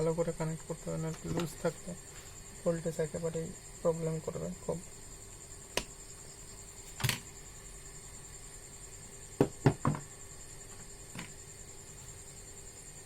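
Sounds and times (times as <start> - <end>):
faint high electrical whine: 0.0 - 13.0.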